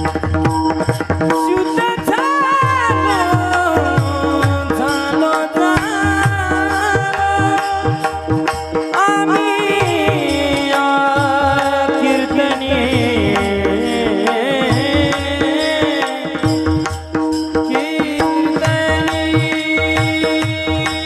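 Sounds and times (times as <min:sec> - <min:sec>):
man singing devotional song: 0:00.0 - 0:21.0
tabla strokes: 0:00.0 - 0:21.0.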